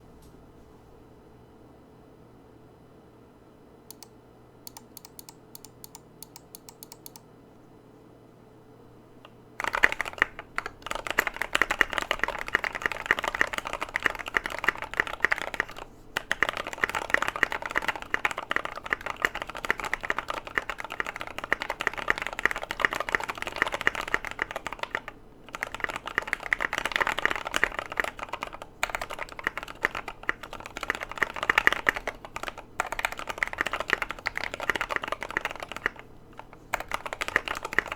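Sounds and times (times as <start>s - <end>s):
typing on mechanical keyboard: 4.7s - 7.2s, 9.6s - 37.9s.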